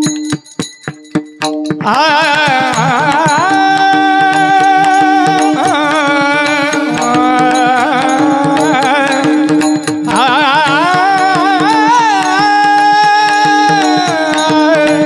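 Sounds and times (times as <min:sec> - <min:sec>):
hand cymbals clashing: 0:00.0 - 0:15.0
man singing devotional melody: 0:01.4 - 0:15.0.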